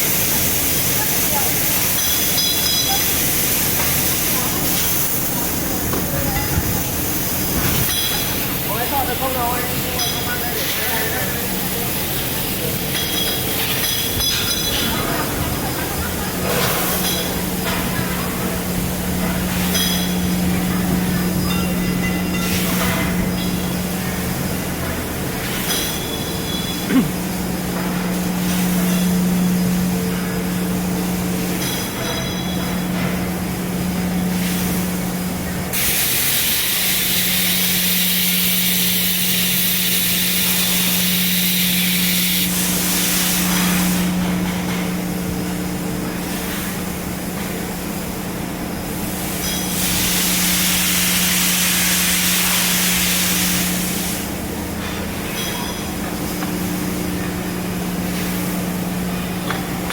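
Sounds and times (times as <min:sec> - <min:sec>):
laser cutter electrical hum: 0:00.0 - 0:59.9.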